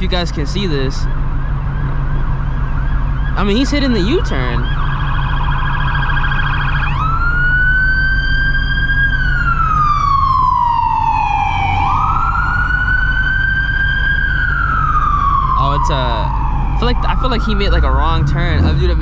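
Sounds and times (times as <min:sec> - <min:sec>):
emergency vehicle siren: 0:00.0 - 0:19.0
low engine rumble: 0:00.0 - 0:19.0.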